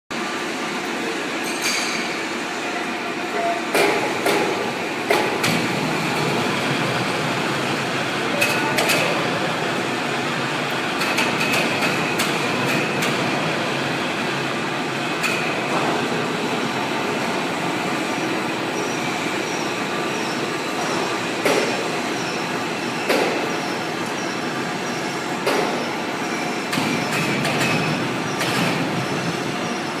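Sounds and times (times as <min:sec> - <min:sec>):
metalworking machinery noise: 0:00.2 - 0:30.0.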